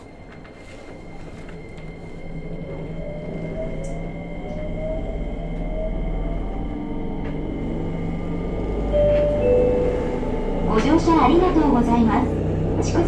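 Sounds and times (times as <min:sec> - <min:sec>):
heavy train rumble: 0:00.0 - 0:13.0.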